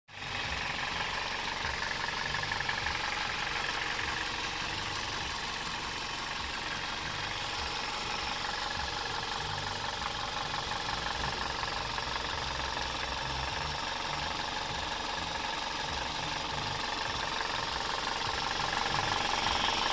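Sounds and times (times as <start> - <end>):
car engine running steadily: 0.1 - 19.9
engine hiss and rattle: 0.1 - 19.9.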